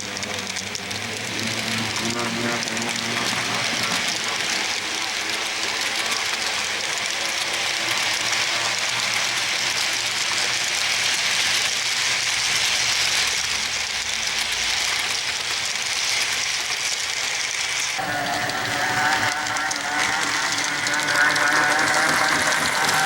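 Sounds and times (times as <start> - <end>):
model train wheels rolling on track: 0.0 - 23.0.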